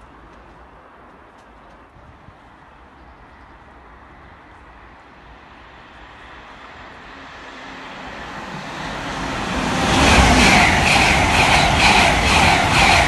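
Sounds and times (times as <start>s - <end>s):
electric train passing at high speed: 2.0s - 13.0s.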